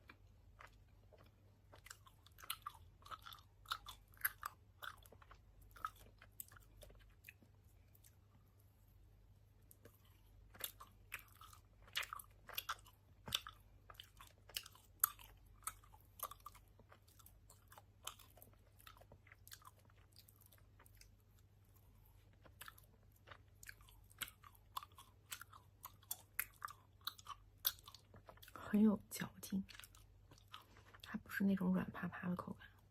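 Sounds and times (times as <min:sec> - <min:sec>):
chewing and lip-smacking: 0:00.0 - 0:08.8, 0:09.5 - 0:31.2.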